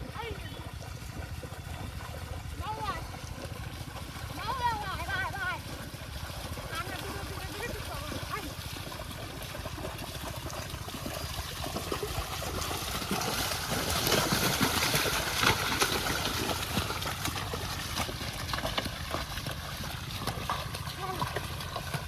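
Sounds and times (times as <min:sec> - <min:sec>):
small water splashes: 0:00.0 - 0:22.0
water trickling and sloshing: 0:00.0 - 0:22.0.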